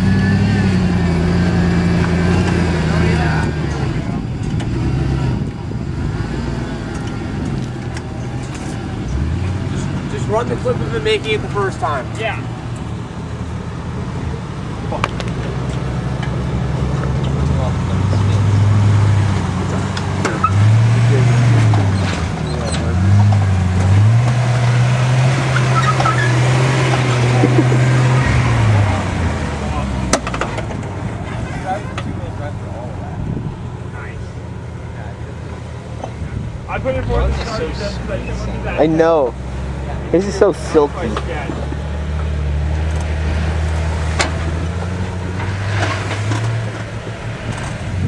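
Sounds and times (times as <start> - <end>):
off-road vehicle engine droning: 0.0 - 48.0.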